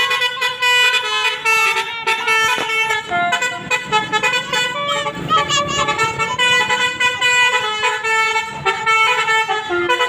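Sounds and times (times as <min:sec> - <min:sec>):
bus musical horn playing a tune: 0:00.0 - 0:10.0.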